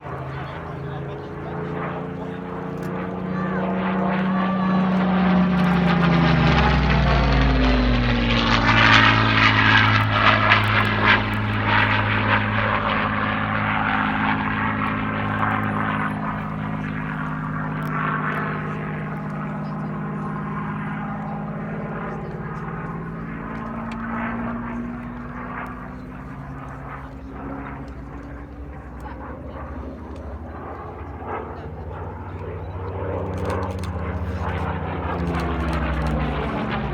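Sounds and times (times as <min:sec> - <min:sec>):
propeller aircraft flying past: 0:00.0 - 0:36.9.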